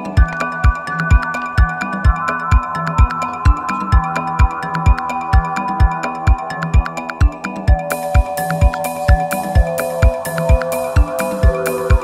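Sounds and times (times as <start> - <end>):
kick drum: 0.1 - 12.0.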